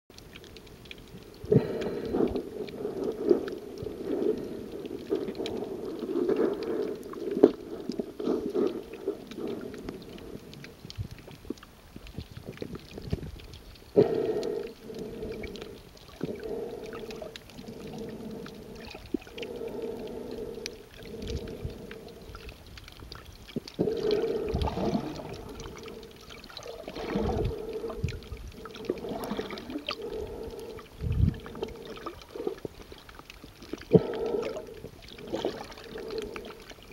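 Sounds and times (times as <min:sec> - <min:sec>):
underwater gurgling and sloshing: 0:00.1 - 0:36.9.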